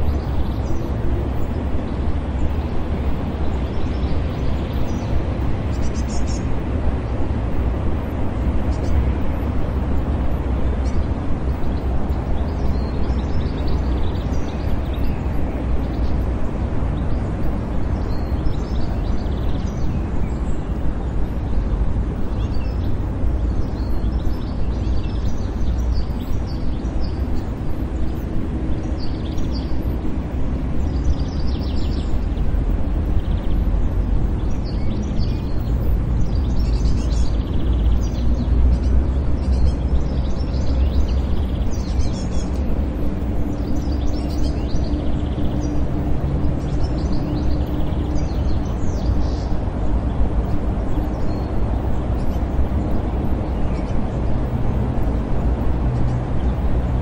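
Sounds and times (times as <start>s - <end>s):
distant traffic rumble: 0.0s - 57.0s
small birds chirping: 0.0s - 57.0s.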